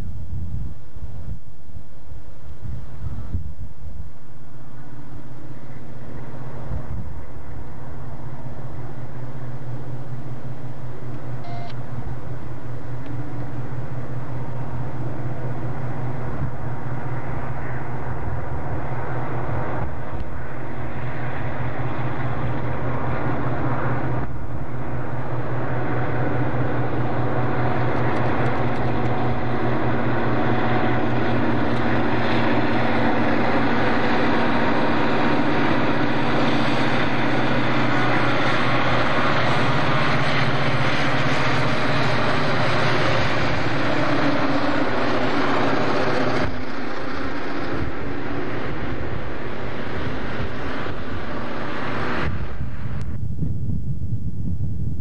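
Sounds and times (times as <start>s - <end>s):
diesel locomotive engine drone: 0.0s - 55.0s
wheels rushing on rails: 0.0s - 55.0s.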